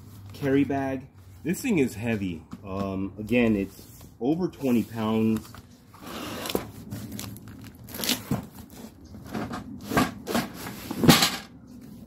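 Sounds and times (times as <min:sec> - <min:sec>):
cardboard and plastic wrap rustling: 0:00.0 - 0:12.0.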